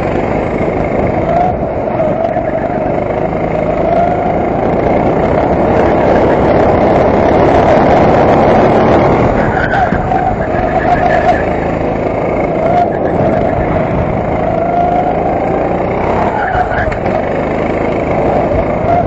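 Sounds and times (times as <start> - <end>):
go-kart engine running: 0.0 - 19.0.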